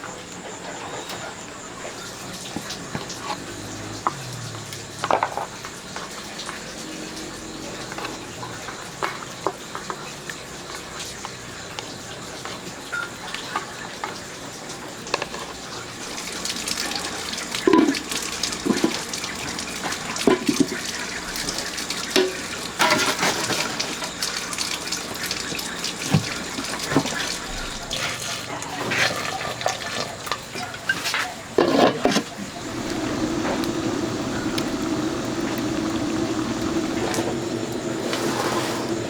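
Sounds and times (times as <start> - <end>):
water running and splashing: 0.5 - 39.0.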